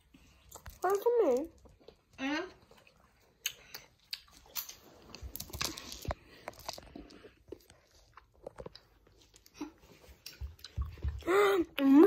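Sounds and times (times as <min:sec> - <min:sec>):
chewing crunchy sweets: 0:00.0 - 0:12.0.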